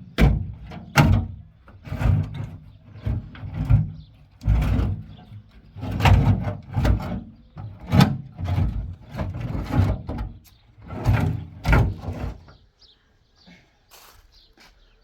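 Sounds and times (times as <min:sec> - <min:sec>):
rough scraping and knocking: 0:00.1 - 0:12.6.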